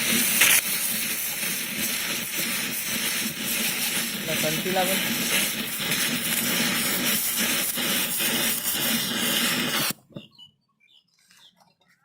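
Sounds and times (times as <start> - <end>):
loud hiss with low rumble: 0.0 - 9.9.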